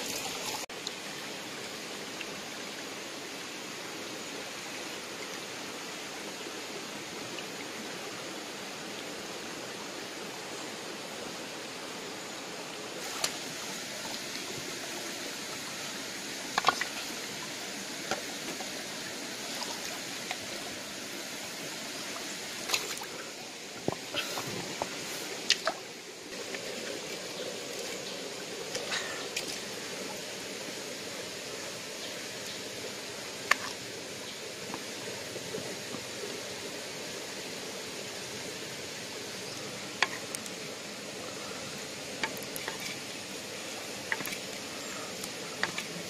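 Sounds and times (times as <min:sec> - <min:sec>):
stream flowing: 0:00.0 - 0:46.0.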